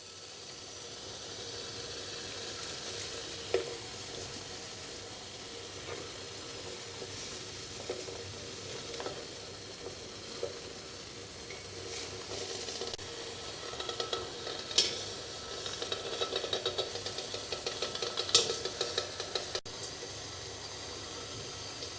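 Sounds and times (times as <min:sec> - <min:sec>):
water heating hiss: 0:00.0 - 0:21.9.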